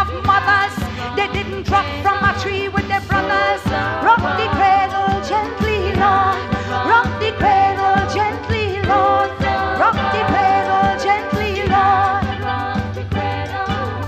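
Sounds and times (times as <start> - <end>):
calypso band music: 0.0 - 14.0.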